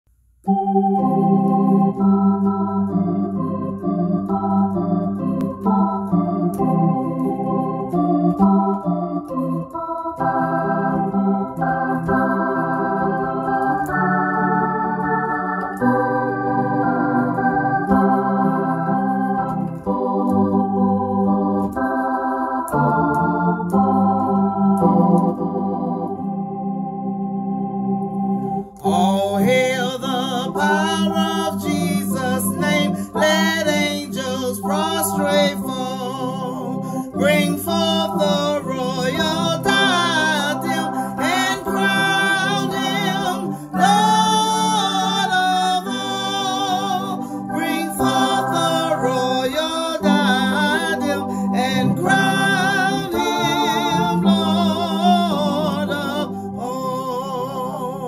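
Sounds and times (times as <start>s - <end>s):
organ chords: 0.4s - 58.0s.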